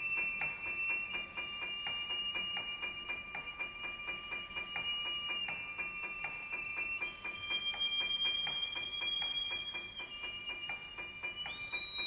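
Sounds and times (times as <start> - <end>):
held high tones: 0.0 - 12.0.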